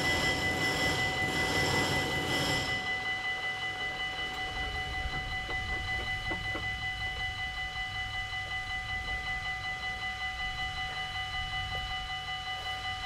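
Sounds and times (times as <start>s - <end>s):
level-crossing warning bell: 0.0s - 13.0s
passing train noise: 0.0s - 13.0s.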